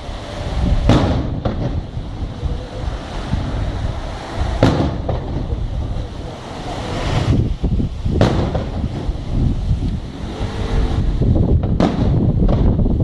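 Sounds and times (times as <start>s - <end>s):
fireworks bursting: 0.0s - 13.0s
low rumble: 0.0s - 13.0s.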